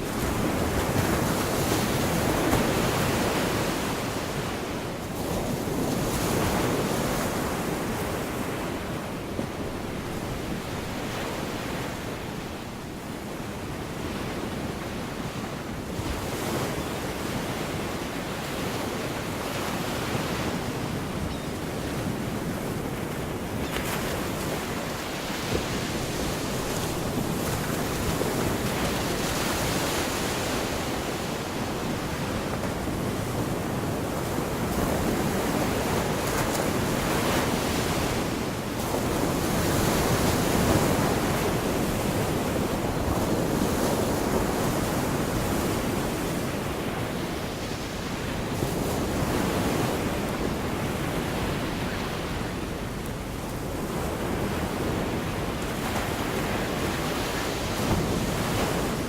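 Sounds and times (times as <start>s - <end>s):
small waves washing onto beach: 0.0s - 59.0s.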